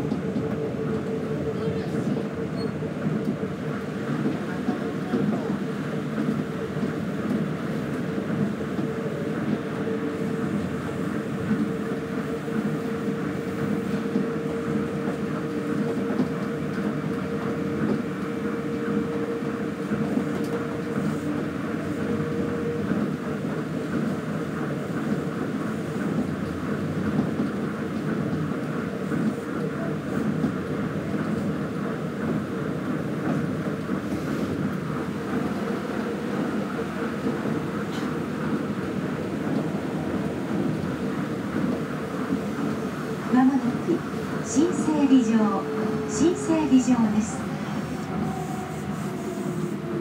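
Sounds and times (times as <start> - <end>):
monorail train rumbling: 0.0 - 50.0.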